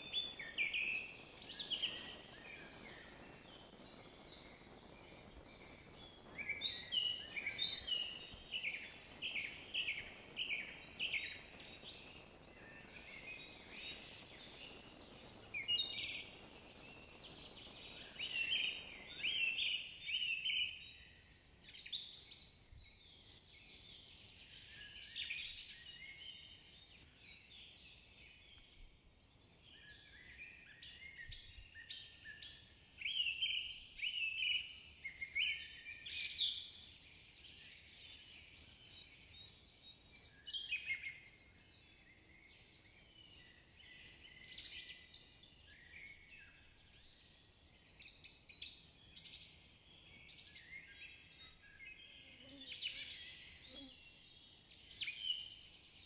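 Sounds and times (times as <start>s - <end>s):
faint background hiss: 0.0s - 56.0s
small songbirds chirping: 0.0s - 56.0s.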